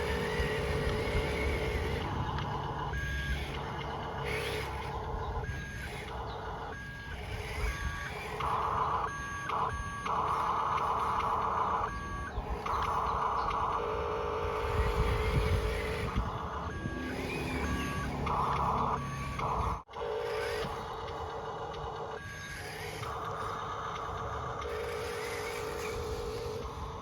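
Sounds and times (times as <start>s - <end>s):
electronic reversing beeper: 0.0s - 27.0s
small electric motors whining: 0.0s - 27.0s.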